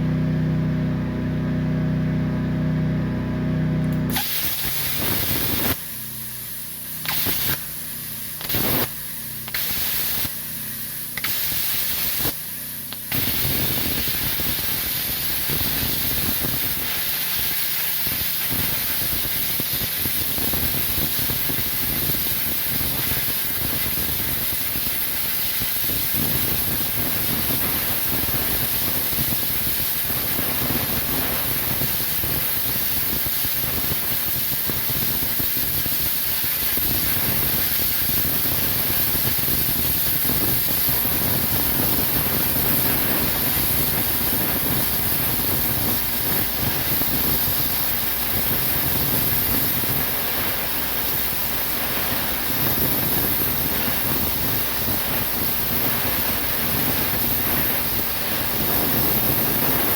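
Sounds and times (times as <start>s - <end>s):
plasma cutter hissing: 4.1s - 59.9s.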